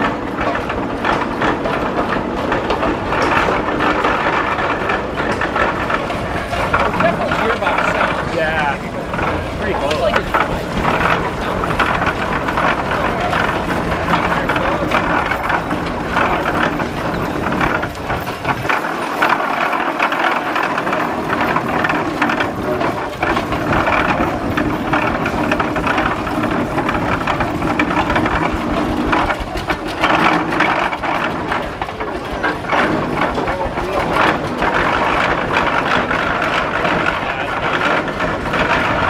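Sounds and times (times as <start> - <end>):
steam tractor gearing clattering: 0.0 - 39.0.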